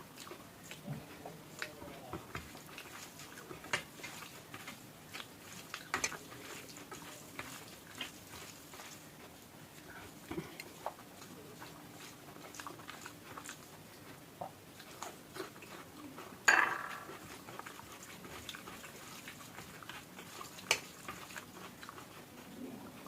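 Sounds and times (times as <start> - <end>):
person chewing: 0.1 - 22.5.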